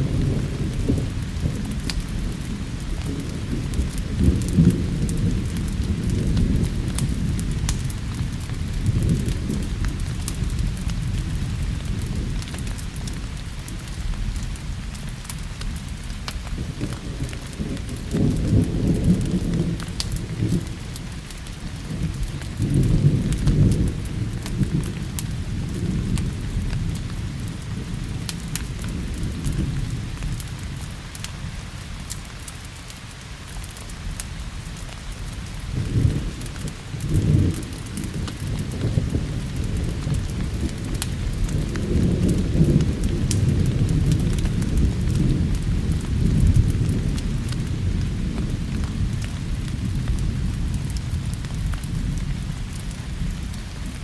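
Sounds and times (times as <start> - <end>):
low rolling thunder: 0.0 - 31.9, 34.1 - 54.0
steady rain: 0.0 - 54.0
wood fire crackling: 0.0 - 54.0.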